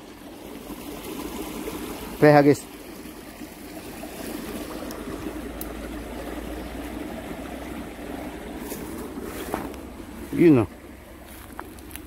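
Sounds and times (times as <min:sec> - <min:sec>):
creek water flowing over rocks: 0:00.0 - 0:12.0.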